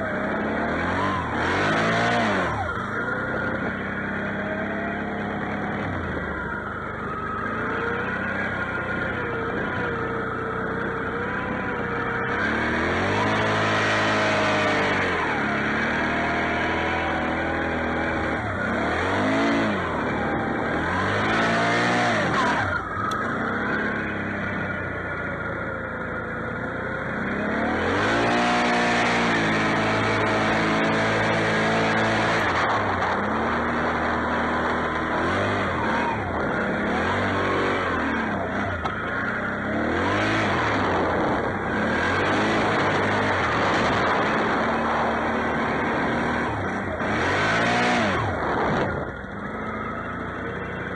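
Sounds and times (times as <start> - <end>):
atv engine revving: 0.0 - 50.9.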